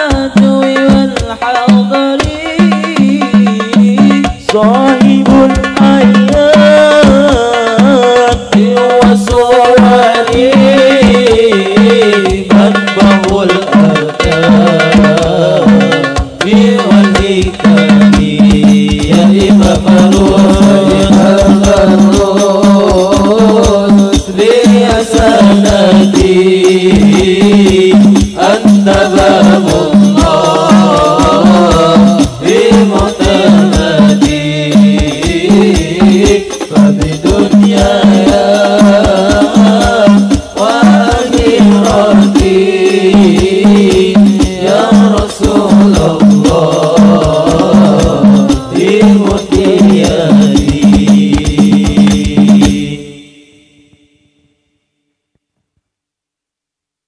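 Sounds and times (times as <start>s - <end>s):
frame drums beating fast rhythm: 0.0s - 53.3s
male voices singing together: 0.0s - 54.3s.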